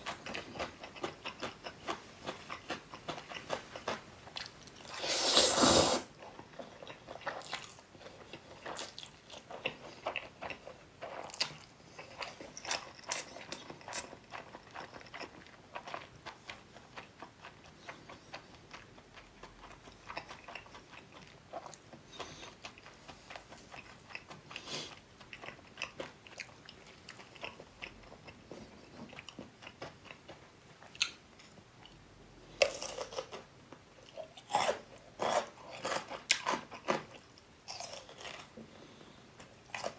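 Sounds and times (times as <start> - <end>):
chewing food: 0.0 - 5.3, 6.1 - 39.9.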